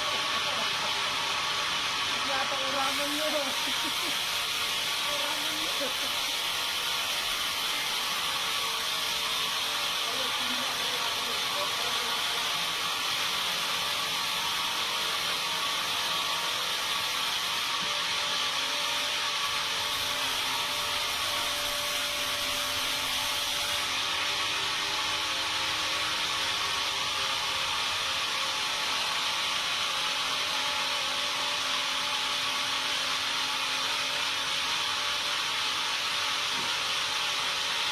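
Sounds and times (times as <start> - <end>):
sawmill machinery hiss: 0.0 - 37.9.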